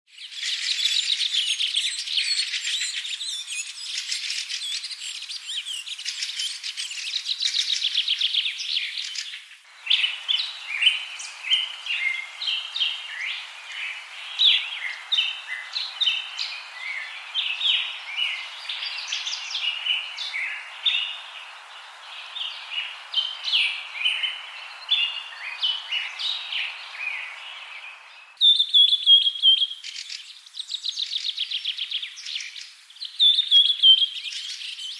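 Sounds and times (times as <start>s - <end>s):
songbirds chirping and trilling: 0.1s - 34.9s
background hiss: 0.2s - 34.9s.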